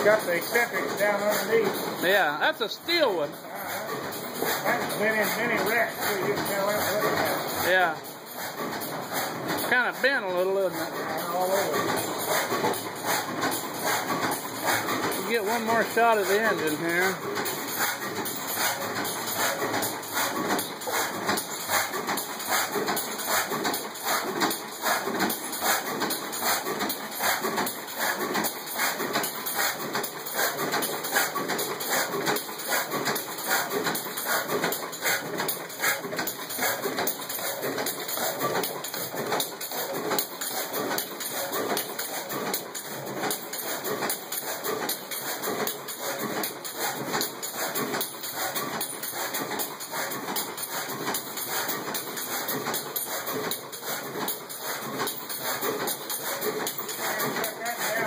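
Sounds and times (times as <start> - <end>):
stationary gas engine knocking: 0.0 - 58.0.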